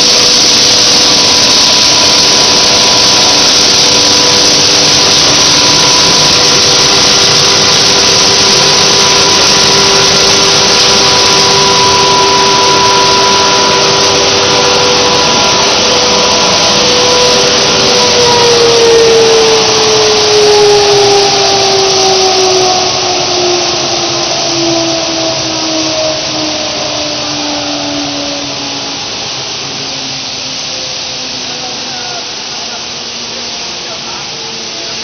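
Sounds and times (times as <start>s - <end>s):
loud rush of air: 0.0s - 35.0s
machine whines: 0.0s - 35.0s.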